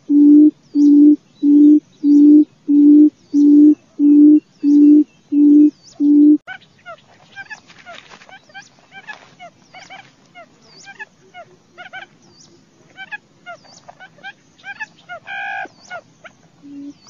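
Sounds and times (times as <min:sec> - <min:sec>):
bird chirping calls: 0:00.0 - 0:17.0
nasal bird call: 0:00.0 - 0:17.0.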